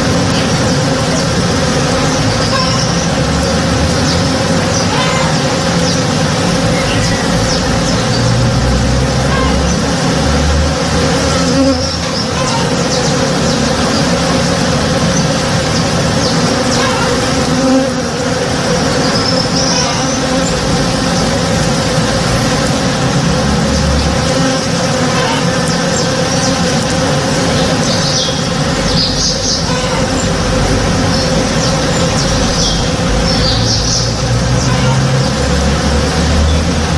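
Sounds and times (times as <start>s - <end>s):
honey bees buzzing: 0.0s - 36.9s.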